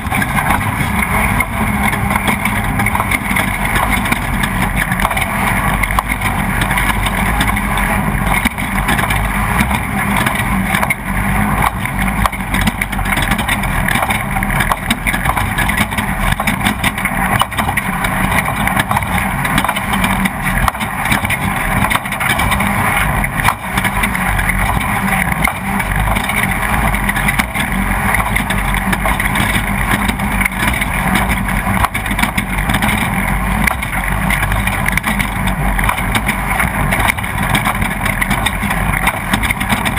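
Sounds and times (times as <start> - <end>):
chassis rattling and knocking: 0.0 - 39.9
race vehicle engine running hard: 0.0 - 39.9.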